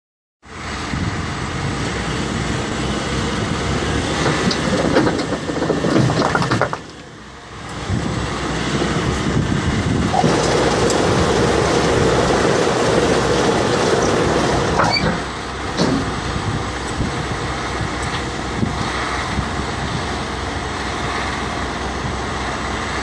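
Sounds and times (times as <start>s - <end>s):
tractors running: 0.5s - 23.0s.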